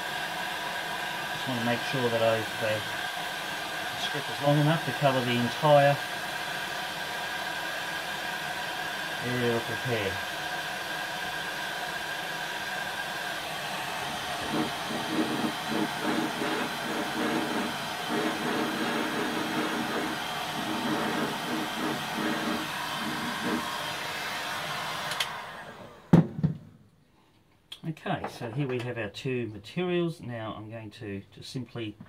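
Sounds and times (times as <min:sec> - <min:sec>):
heat gun blowing hot air: 0:00.0 - 0:26.2.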